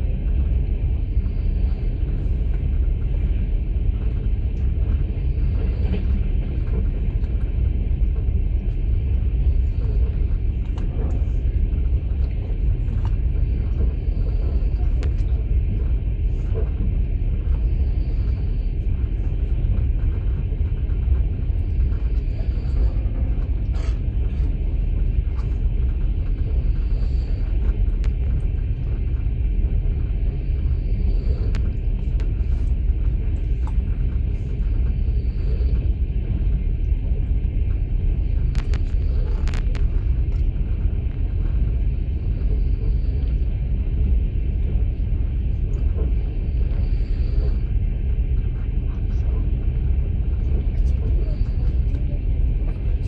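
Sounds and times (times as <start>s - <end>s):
moving train rumble: 0.0s - 53.0s
faint clicks and rattles: 2.1s - 53.0s.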